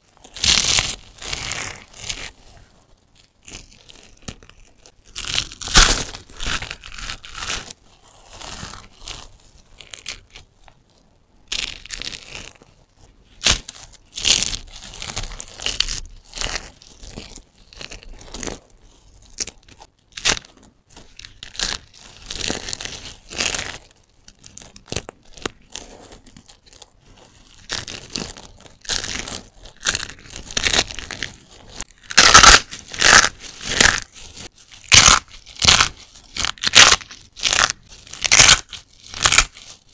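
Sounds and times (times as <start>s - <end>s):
soap bars crunching by hand: 3.2s - 10.5s, 11.4s - 39.9s.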